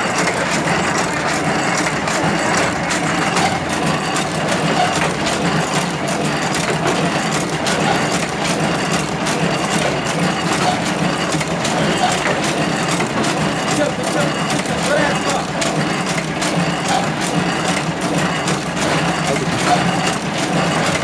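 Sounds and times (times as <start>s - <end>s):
sewing machine clattering: 0.0s - 21.0s.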